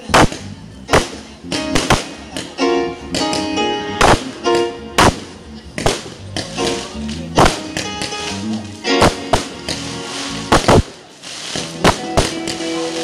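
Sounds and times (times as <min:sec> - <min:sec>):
fireworks cracking: 0:00.0 - 0:13.0
spanish-style guitar music: 0:00.0 - 0:13.0.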